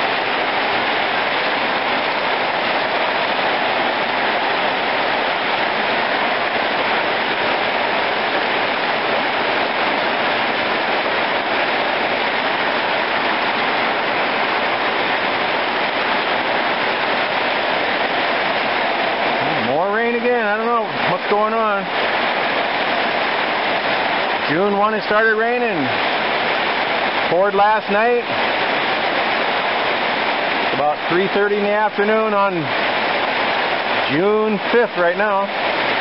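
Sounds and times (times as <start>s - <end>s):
rain on wet concrete: 0.0s - 36.0s.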